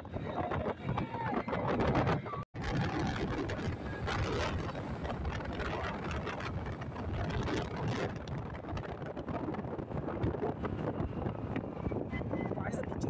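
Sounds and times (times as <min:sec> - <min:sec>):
wind buffeting microphone: 0:00.0 - 0:13.0
tyre noise on road: 0:00.5 - 0:12.5.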